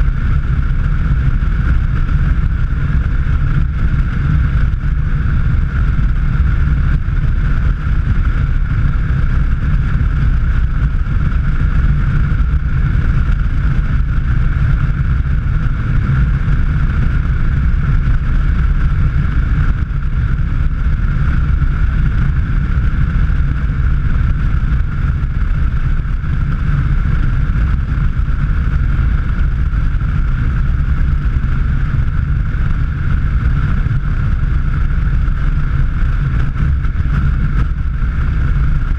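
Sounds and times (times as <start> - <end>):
car driving at speed: 0.0 - 38.9.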